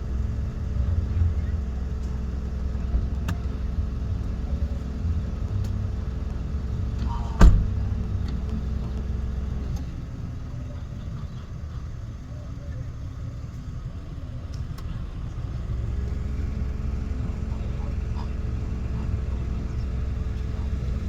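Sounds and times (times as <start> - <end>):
car engine running: 0.0 - 21.0
low hum: 0.0 - 21.0.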